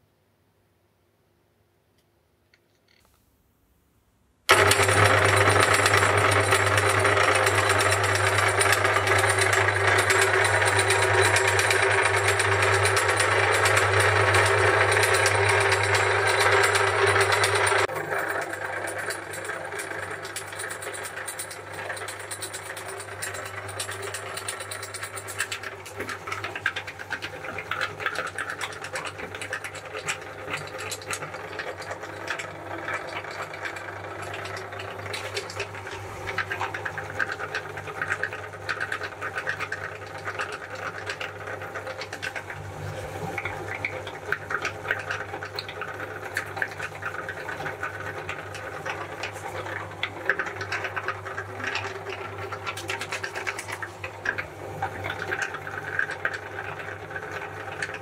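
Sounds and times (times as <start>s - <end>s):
meat grinder humming: 4.5s - 58.0s.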